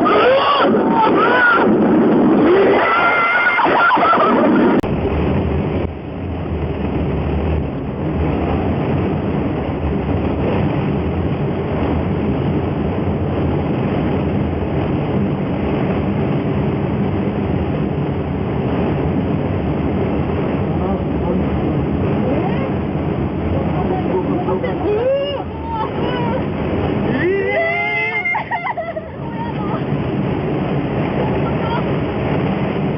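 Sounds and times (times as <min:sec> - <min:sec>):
wind buffeting a cabin: 0:00.0 - 0:32.9.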